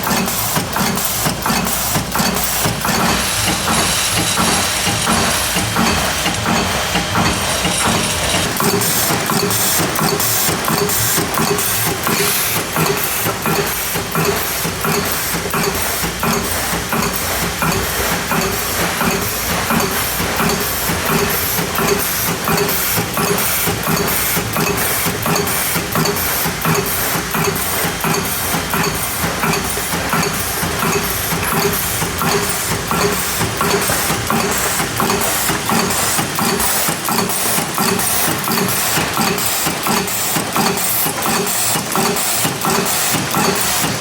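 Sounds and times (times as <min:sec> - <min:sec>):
machine running noisily: 0:00.0 - 0:44.0
rapid regular machine clatter: 0:00.0 - 0:44.0.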